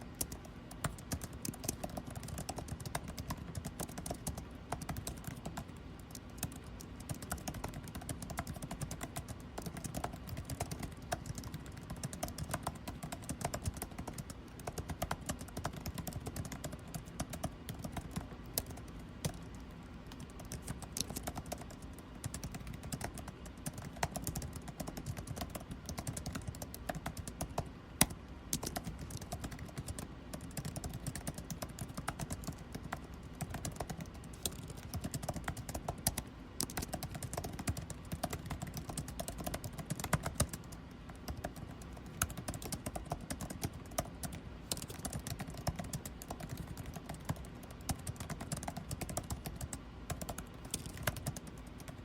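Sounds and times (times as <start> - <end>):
air conditioning hum: 0.0 - 52.0
typing on computer keyboard: 0.0 - 52.0.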